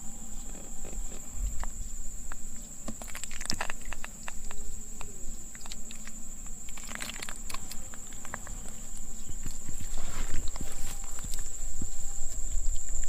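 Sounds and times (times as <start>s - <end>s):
high-pitched insect buzz: 0.0s - 13.0s.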